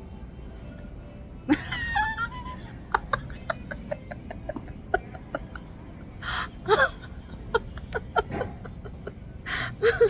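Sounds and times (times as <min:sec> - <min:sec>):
woman laughing breathlessly: 0:01.5 - 0:10.0.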